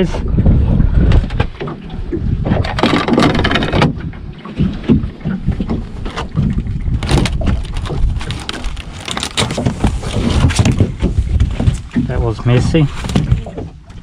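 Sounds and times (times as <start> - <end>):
low boat rumble: 0.0 - 14.0
wind buffeting microphone: 0.0 - 14.0.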